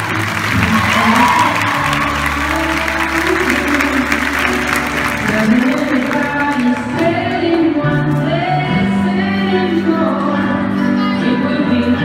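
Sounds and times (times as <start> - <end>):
show music over sound system: 0.0 - 12.0.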